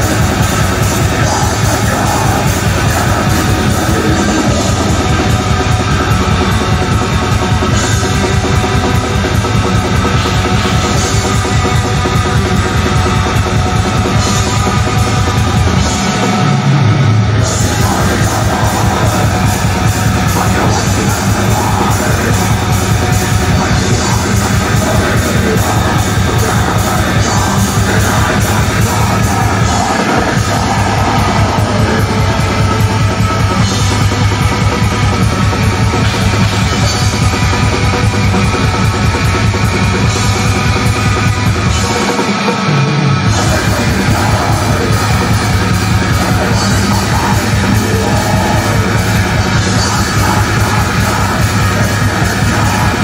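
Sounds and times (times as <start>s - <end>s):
distorted guitars: 0.0s - 53.0s
very fast dense drumming: 0.0s - 53.0s.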